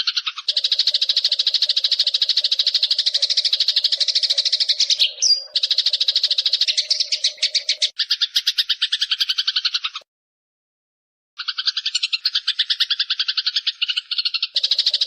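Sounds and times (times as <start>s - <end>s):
sparrow chirping rapidly: 0.0s - 10.0s, 11.4s - 15.0s.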